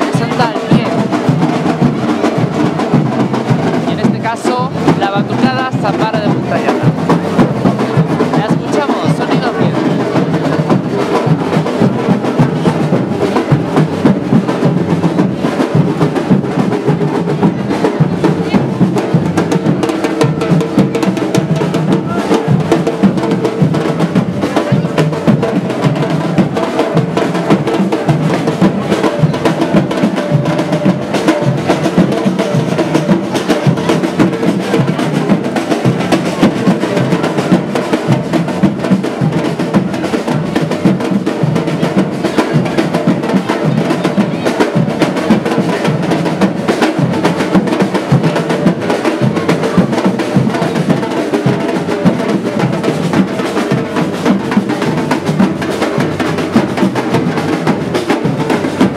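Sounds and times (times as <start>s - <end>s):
bass drums: 0.0s - 58.9s
samba drum group playing: 0.0s - 58.9s
snare drums: 0.0s - 58.9s.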